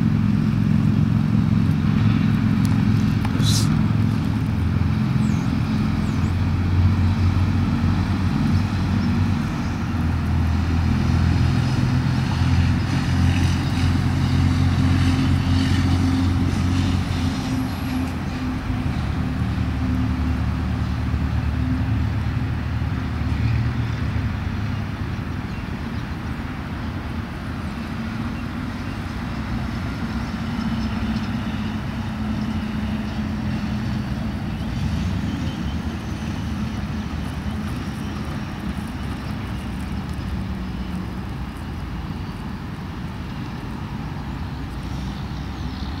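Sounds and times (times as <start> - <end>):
constant noise: 0.0 - 46.0
low engine rumble: 0.0 - 46.0.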